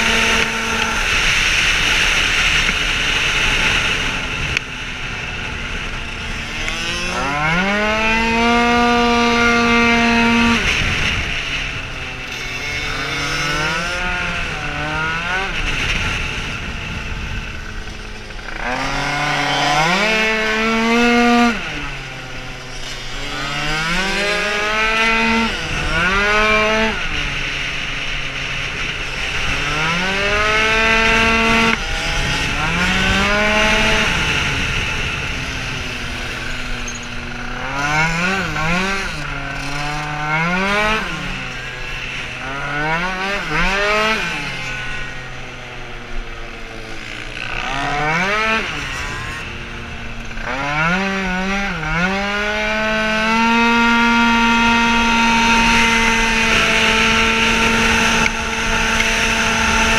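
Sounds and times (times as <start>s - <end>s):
two-stroke scooter engine revving: 0.0s - 59.9s
wind rushing over microphone: 0.0s - 59.9s.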